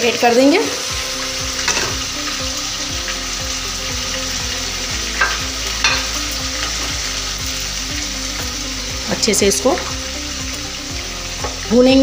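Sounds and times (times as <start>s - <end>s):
chicken sizzling in pot: 0.0s - 12.0s.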